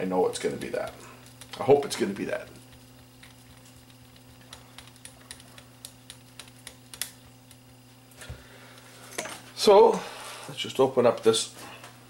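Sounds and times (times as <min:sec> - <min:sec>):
steady low hum: 0:00.0 - 0:12.0
clicks of small fan parts: 0:00.4 - 0:09.4, 0:11.0 - 0:12.0.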